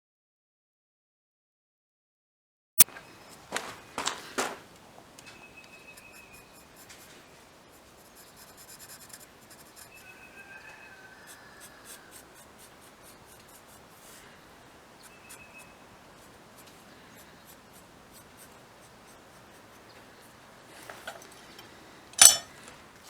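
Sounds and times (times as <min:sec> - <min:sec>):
faint scratching and rubbing: 0:02.9 - 0:23.0.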